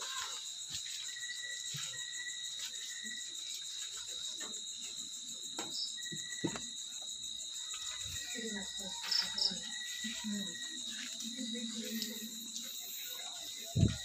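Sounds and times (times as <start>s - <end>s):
crickets trilling: 0.0s - 14.0s
lower insect chirping: 0.0s - 14.0s.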